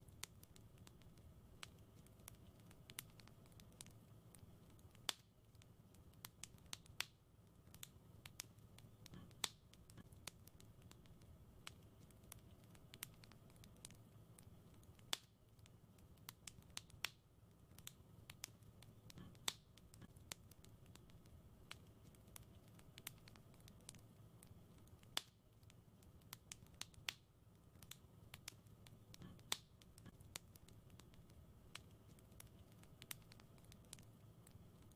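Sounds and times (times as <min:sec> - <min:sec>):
fire crackling and popping: 0:00.0 - 0:34.9
low rumble of burning fire: 0:00.0 - 0:34.9.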